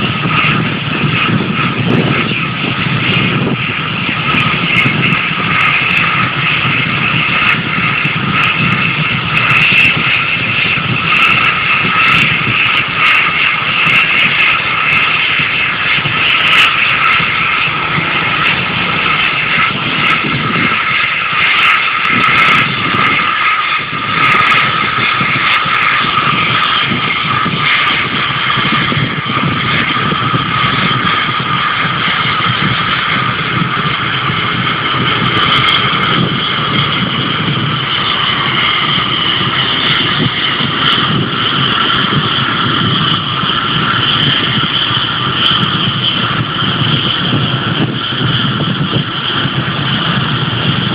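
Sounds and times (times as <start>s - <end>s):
jet engines whining: 0.0s - 50.9s.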